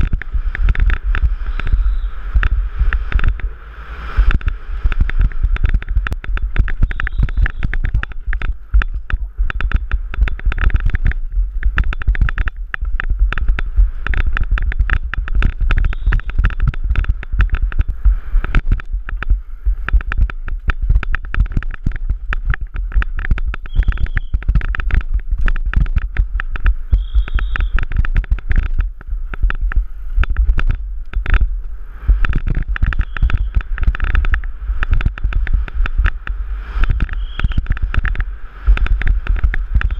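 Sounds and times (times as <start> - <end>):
bike rattling over rough track: 0.0 - 39.9
heavy low rumble: 0.0 - 39.9.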